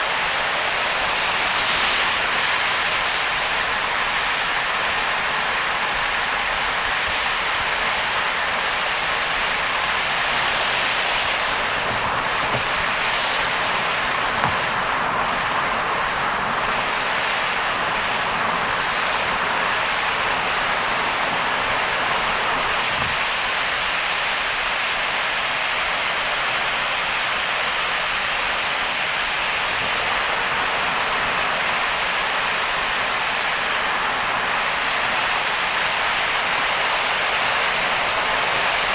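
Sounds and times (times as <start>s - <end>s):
rain and road spray on car: 0.0s - 38.9s.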